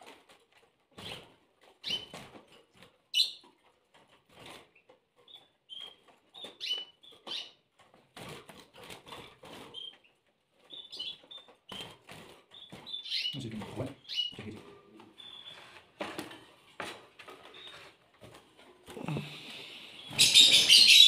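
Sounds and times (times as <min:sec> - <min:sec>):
birds fluttering against cage wire: 0:00.0 - 0:21.0.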